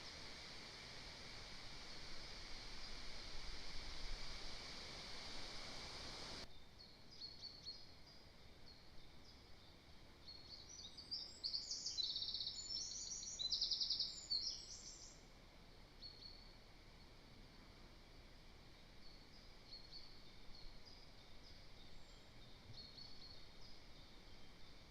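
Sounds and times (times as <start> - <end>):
steady hiss: 0.0 - 6.5, 7.1 - 24.9.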